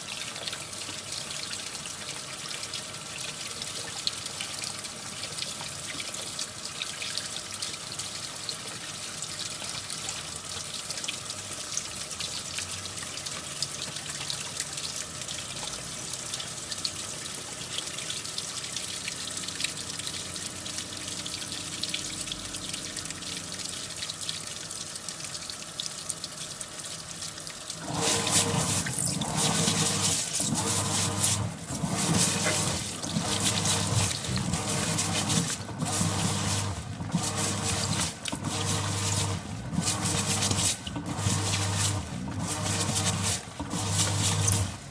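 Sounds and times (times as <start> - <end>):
washing machine churning: 0.0 - 44.9.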